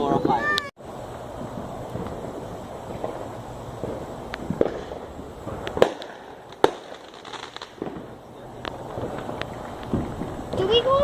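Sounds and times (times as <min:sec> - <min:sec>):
distant fireworks popping: 0:00.0 - 0:11.0.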